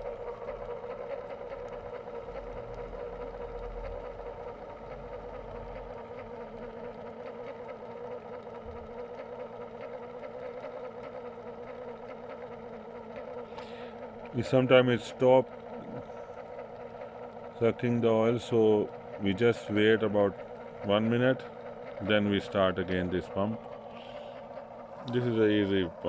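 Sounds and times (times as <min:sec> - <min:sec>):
electric pump humming: 0:00.0 - 0:26.0.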